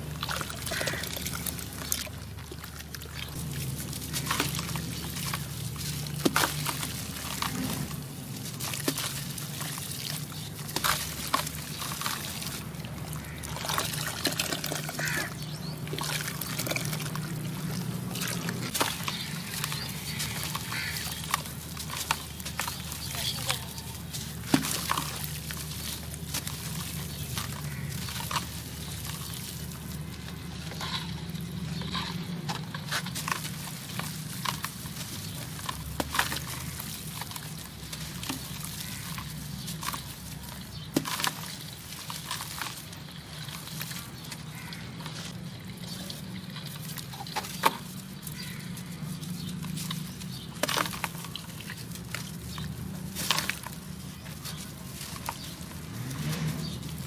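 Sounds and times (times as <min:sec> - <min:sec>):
blocks crumbling with crunch: 0:03.2 - 0:45.3, 0:46.6 - 0:57.0.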